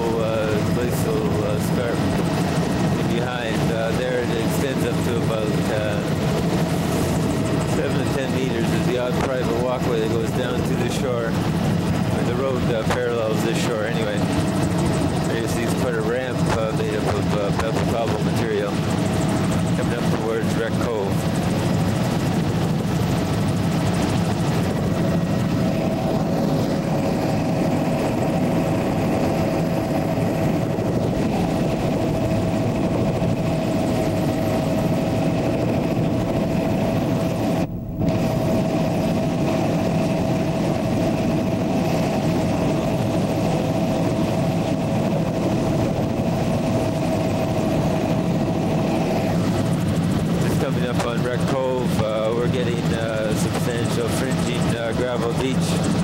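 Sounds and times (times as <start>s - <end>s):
aircraft engines droning in cabin: 0.0s - 56.0s.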